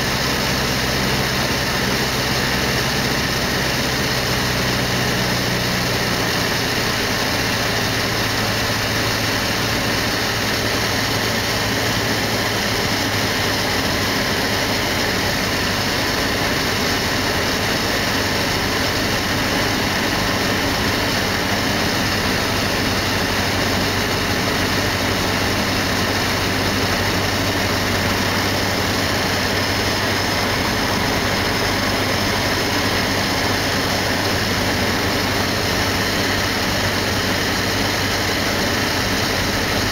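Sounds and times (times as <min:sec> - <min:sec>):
aircraft engine drone in cabin: 0:00.0 - 0:39.9.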